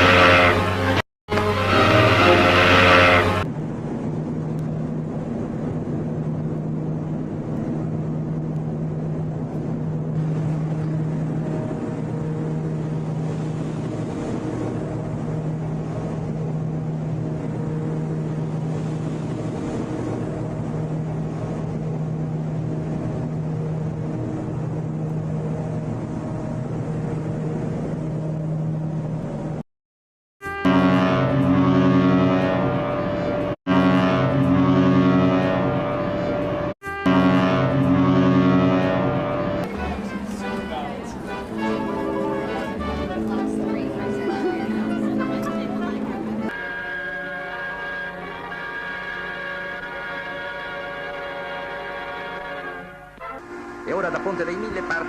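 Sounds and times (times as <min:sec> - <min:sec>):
ship engine humming: 0:00.0 - 0:29.6, 0:30.4 - 0:55.0.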